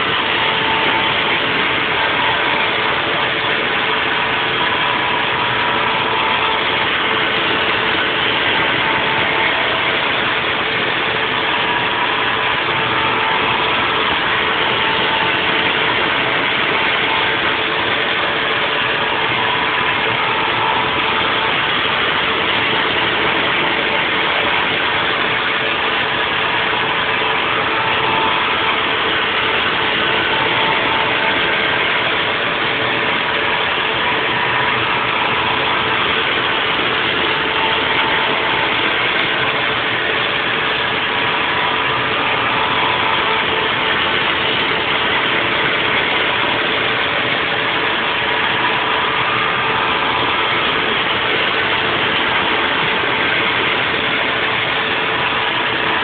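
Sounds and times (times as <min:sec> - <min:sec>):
milling machine cutting: 0:00.0 - 0:56.0
steady hum: 0:00.0 - 0:56.0.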